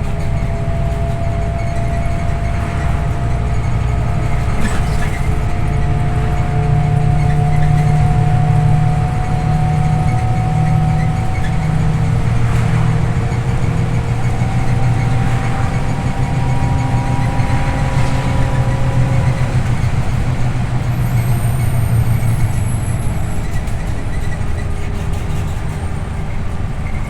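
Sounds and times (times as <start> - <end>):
high squeal: 0.0 - 25.9
bus engine drone: 0.0 - 27.0
drivetrain whine: 0.0 - 27.0.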